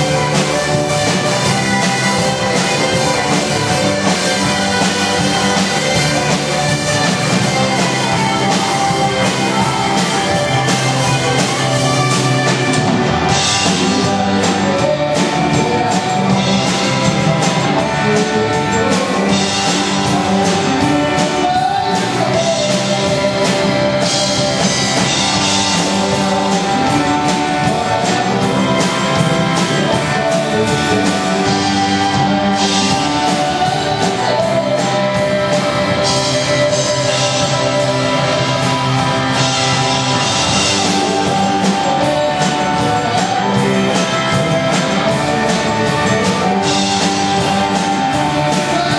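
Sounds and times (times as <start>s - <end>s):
rock music with guitar and drums: 0.0s - 48.9s.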